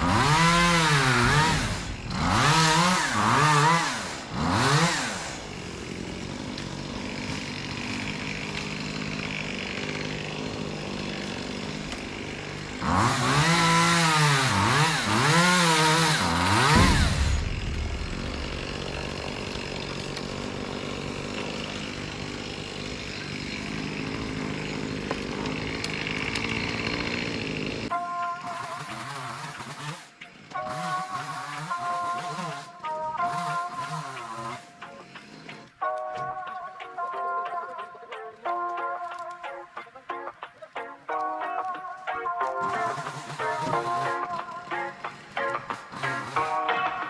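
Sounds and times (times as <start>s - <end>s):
chainsaw revving and idling: 0.0s - 36.0s, 42.4s - 47.0s.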